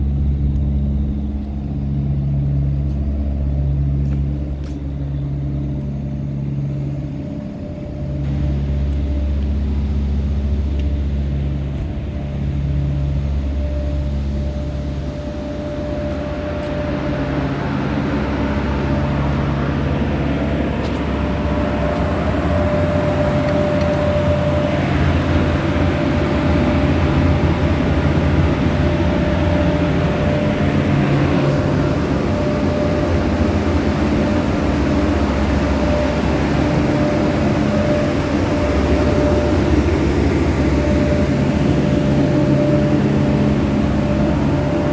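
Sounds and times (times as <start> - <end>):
truck engine humming: 0.0 - 44.9.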